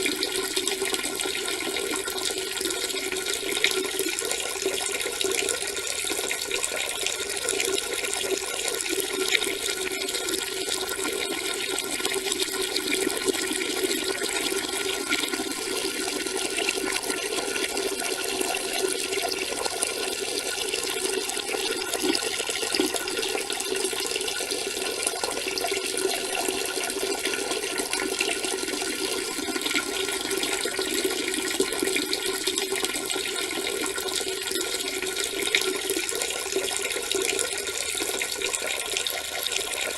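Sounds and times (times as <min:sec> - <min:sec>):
urine splashing into toilet water: 0:00.0 - 0:39.9.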